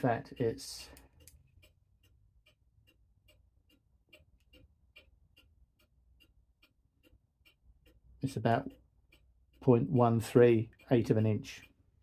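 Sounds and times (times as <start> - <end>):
mechanical clock ticking: 0.0 - 12.0.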